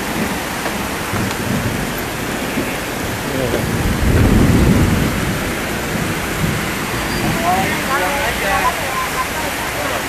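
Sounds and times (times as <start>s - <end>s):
heavy rain pouring: 0.0s - 10.0s
thunder rumble: 0.0s - 10.0s.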